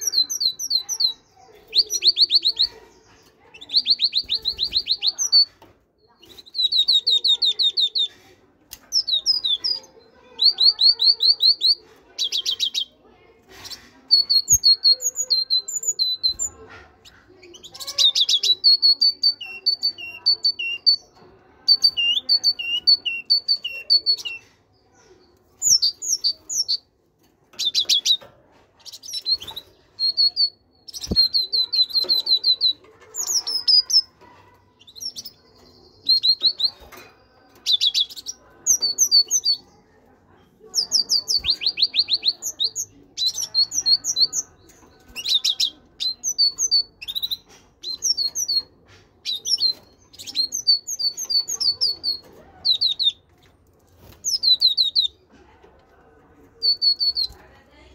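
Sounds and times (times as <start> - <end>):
great tit singing: 0.0 - 8.2, 8.8 - 13.0, 13.6 - 26.9, 27.5 - 28.2, 28.8 - 39.9, 40.5 - 53.6, 54.2 - 55.2.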